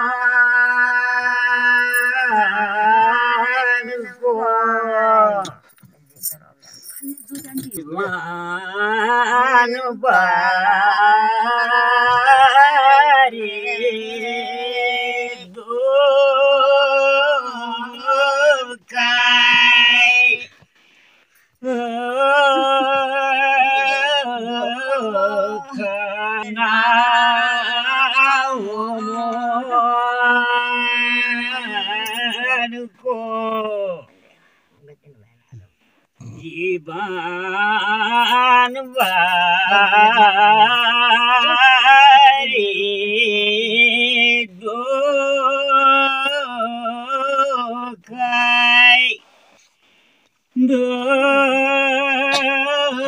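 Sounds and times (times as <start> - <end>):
elderly people singing unaccompanied: 0.0 - 5.9, 7.0 - 20.6, 21.6 - 34.2, 36.2 - 49.2, 50.6 - 53.0.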